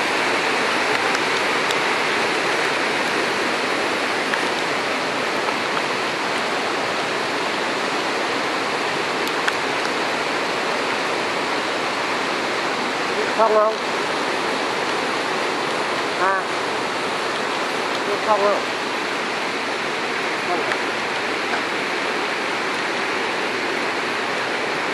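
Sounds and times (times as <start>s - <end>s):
steady rushing noise: 0.0s - 24.9s.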